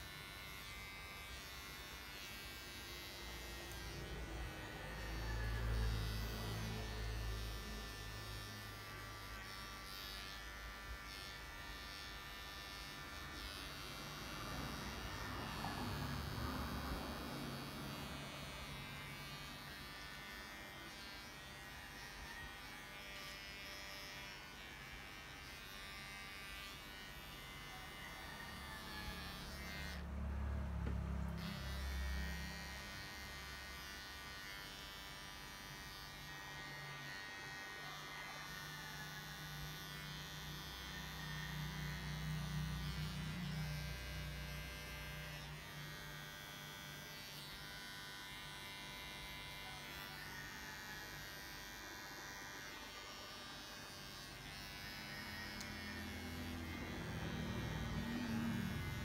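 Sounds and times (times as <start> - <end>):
electric clippers buzzing: 0.0 - 59.0.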